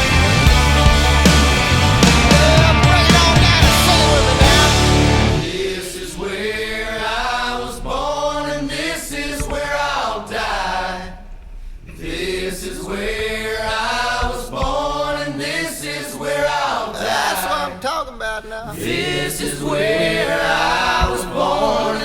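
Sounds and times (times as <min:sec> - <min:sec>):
choir singing: 0:00.0 - 0:22.0.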